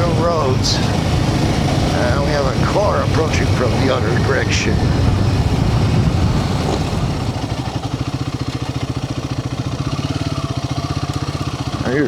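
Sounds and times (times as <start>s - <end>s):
riding noise: 0.0s - 12.0s
single-cylinder engine pulsing: 0.0s - 12.0s.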